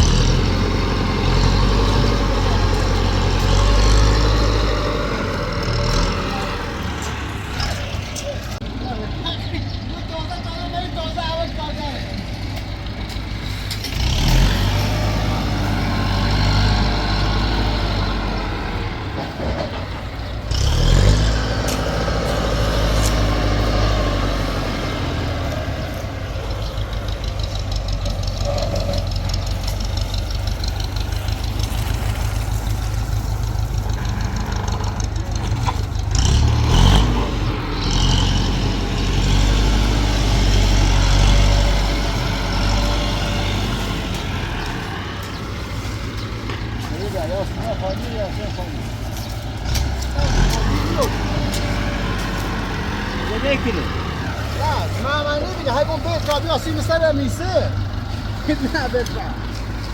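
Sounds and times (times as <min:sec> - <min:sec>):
heavy engine running and revving: 0:00.0 - 0:59.9.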